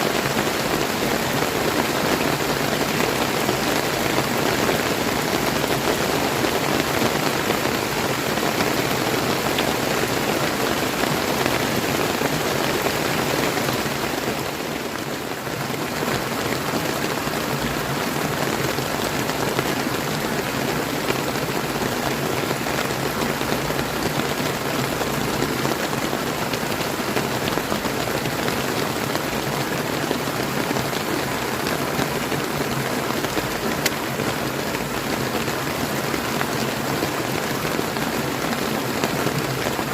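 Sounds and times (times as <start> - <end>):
flowing river water: 0.0 - 39.9
rain falling: 0.0 - 39.9.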